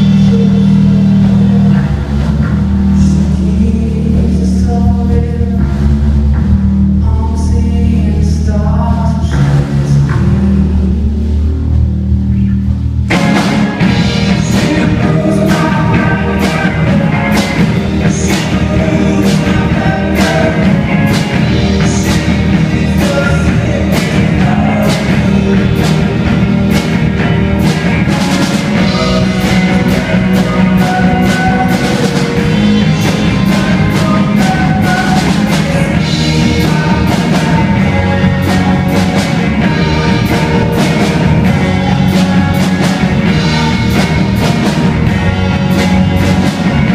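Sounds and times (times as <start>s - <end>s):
drum kit beat: 0.0s - 10.6s, 11.8s - 46.9s
rock band playing live: 0.0s - 46.9s.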